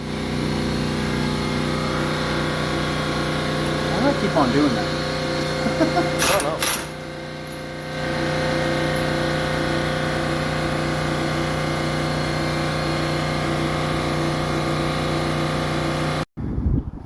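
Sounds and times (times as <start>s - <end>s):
steady machine drone: 0.0s - 16.2s.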